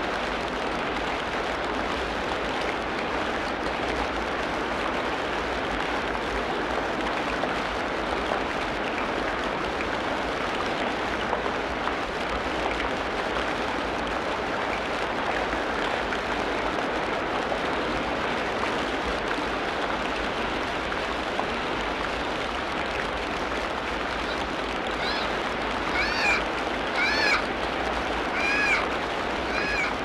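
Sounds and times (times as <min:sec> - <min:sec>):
rain falling on foliage: 0:00.0 - 0:30.0.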